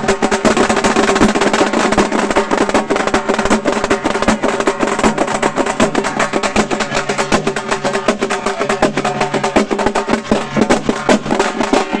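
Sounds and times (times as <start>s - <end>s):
frame drums beaten with sticks: 0.0s - 12.0s.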